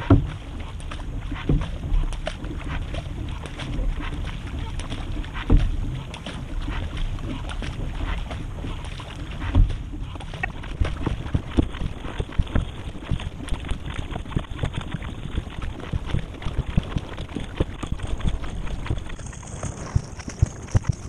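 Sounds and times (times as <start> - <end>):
paddle splashes: 0.0 - 21.0
water rushing along hull: 0.0 - 21.0.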